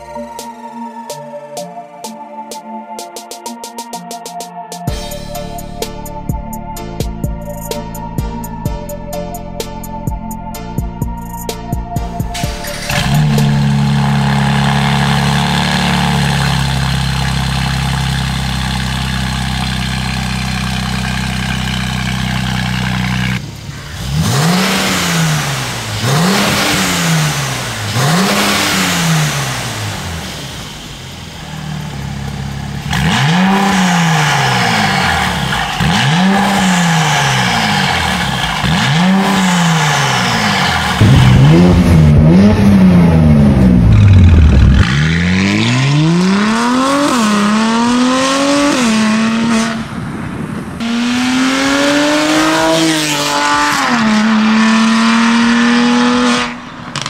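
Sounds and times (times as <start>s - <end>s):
car engine idling and revving: 0.0s - 0.9s, 4.9s - 57.0s.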